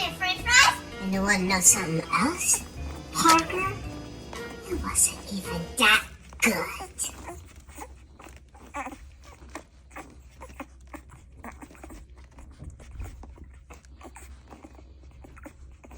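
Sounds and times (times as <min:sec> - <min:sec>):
dog making small sounds: 0:00.1 - 0:15.9.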